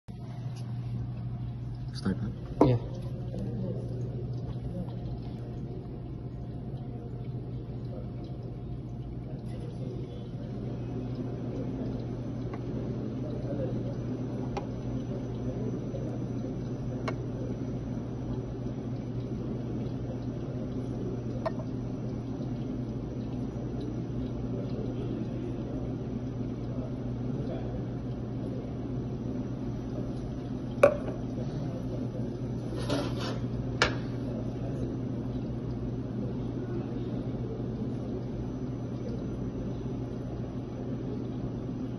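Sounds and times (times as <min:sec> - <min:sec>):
low machine hum: 0:00.1 - 0:41.9
milk pouring into a cup: 0:00.1 - 0:41.9.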